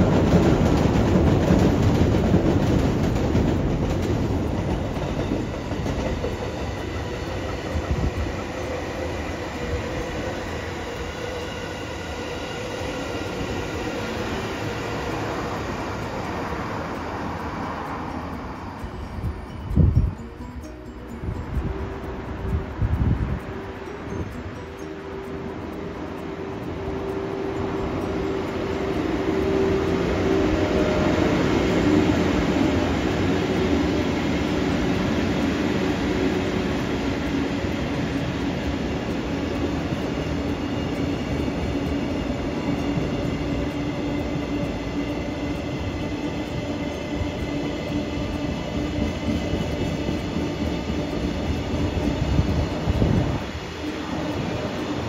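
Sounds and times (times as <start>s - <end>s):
freight train wheels rumbling on rails: 0.0s - 55.0s
steady humming tones: 2.6s - 55.0s.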